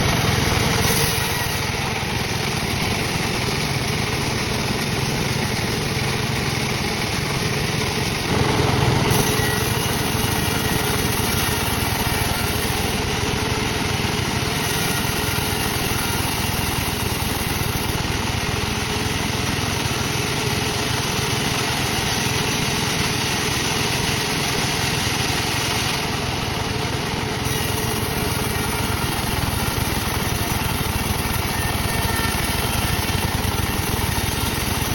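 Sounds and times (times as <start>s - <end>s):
sawmill saw running: 0.0s - 34.9s.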